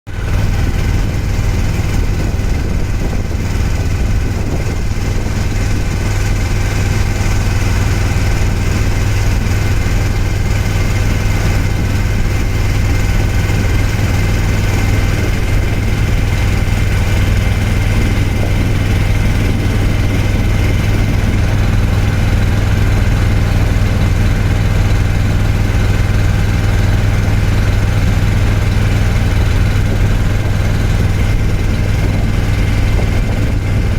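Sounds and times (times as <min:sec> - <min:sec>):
boat engine running: 0:00.1 - 0:33.9.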